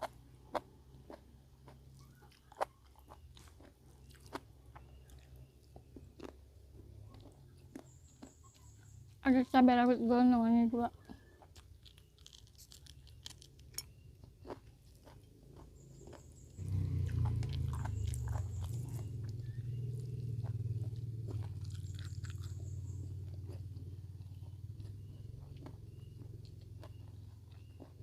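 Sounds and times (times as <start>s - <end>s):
chewing crisp food: 0.0s - 9.6s, 10.8s - 28.0s
low steady rumble: 0.0s - 28.0s.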